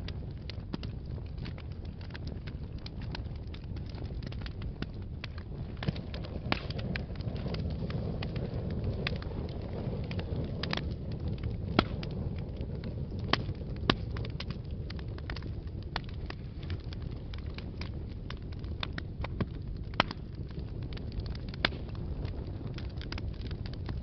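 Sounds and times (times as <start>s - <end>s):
fire crackles and pops: 0.0s - 24.0s
wood fire rumbling in fireplace: 0.0s - 24.0s.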